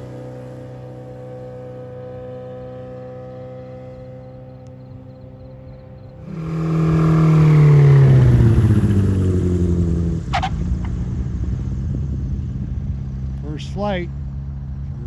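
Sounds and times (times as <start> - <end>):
light aircraft engine flying past: 0.0 - 15.0.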